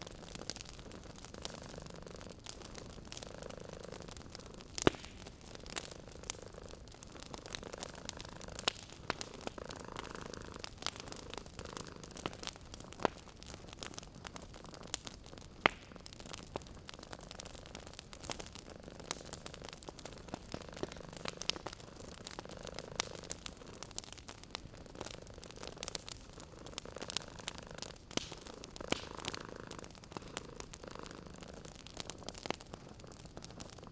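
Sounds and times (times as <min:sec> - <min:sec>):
cat purring: 0:00.0 - 0:33.9
wood fire crackling: 0:00.0 - 0:33.9.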